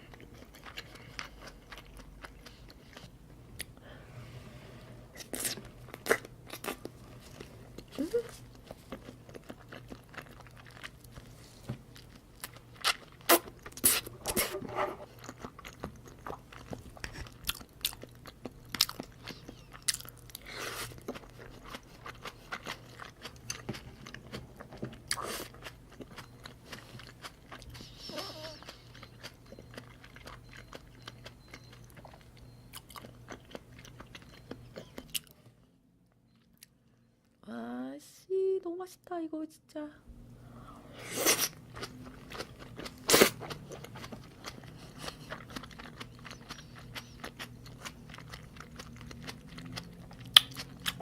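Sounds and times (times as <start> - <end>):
person chewing with wet smacks: 0.0 - 3.8, 5.2 - 35.4, 41.3 - 51.0
steady low hum: 0.0 - 51.0.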